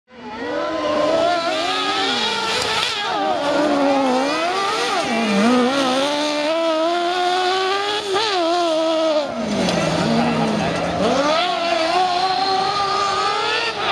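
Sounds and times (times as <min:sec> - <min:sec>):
motorcycle engine revving hard: 0:00.1 - 0:13.9.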